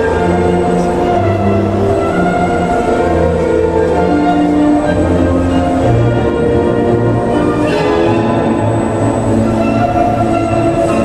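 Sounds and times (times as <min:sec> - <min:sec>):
orchestral music with held notes: 0:00.0 - 0:11.0.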